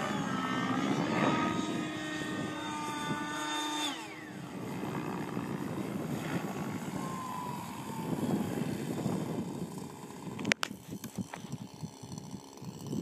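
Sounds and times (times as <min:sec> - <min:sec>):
falling engine whine: 0:00.0 - 0:13.0
rc helicopter engine and rotor: 0:00.0 - 0:13.0.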